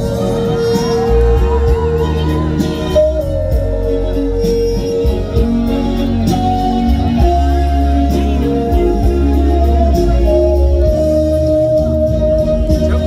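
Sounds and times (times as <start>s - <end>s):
guitar: 0.0s - 13.0s
person singing: 0.0s - 13.0s.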